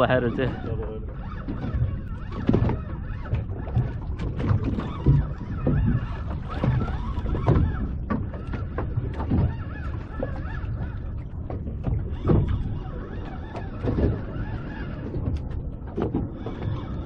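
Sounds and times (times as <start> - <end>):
water slapping boat hull: 0.0 - 17.0
wind buffeting microphone: 0.0 - 17.0.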